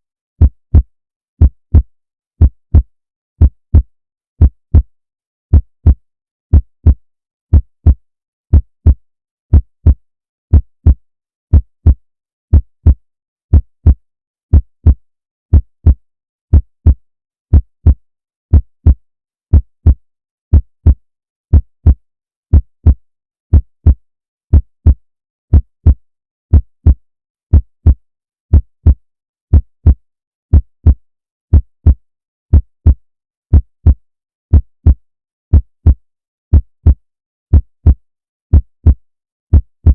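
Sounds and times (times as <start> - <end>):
heartbeat thumps: 5.5 - 39.9.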